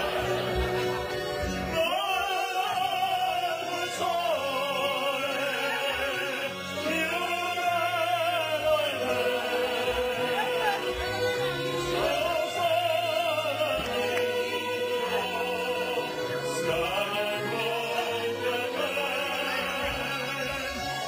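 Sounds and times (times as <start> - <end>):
instrumental accompaniment: 0.0 - 21.0
operatic singing: 0.0 - 21.0.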